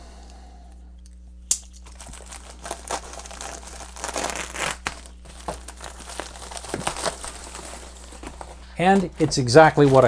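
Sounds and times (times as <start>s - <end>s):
plastic mailer crinkling and tearing: 1.8s - 10.0s.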